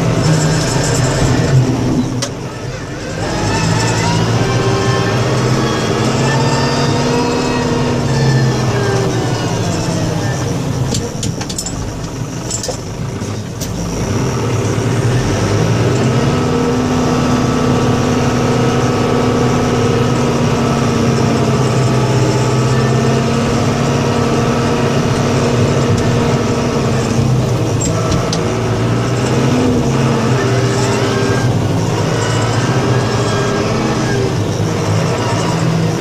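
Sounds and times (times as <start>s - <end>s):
vehicle engine running under load: 0.0s - 36.0s.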